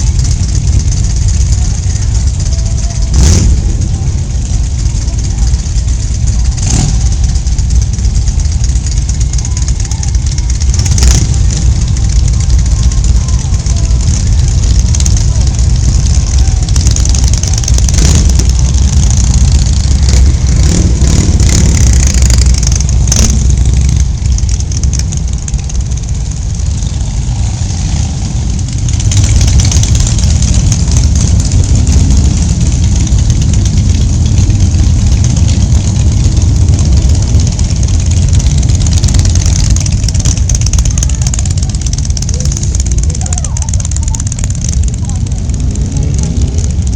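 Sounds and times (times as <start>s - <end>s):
motorcycle engine rumbling: 0.0s - 46.9s.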